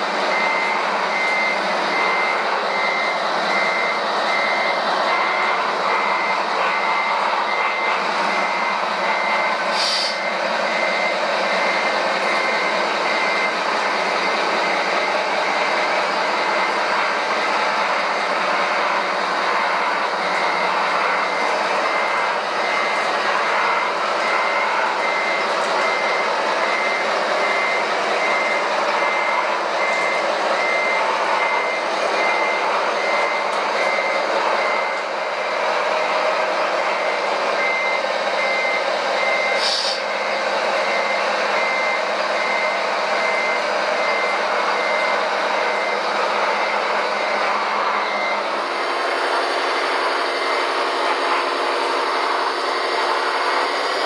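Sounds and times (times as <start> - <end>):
reversing beeper: 0.0 - 54.0.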